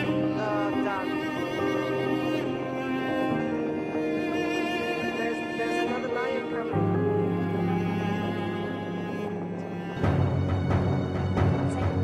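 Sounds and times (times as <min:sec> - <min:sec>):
bowed strings with violin: 0:00.0 - 0:12.0.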